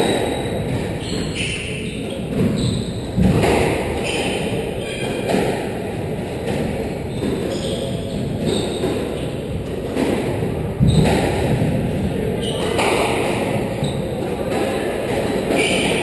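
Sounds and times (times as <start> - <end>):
squash ball hitting rackets and walls: 0.0 - 16.0.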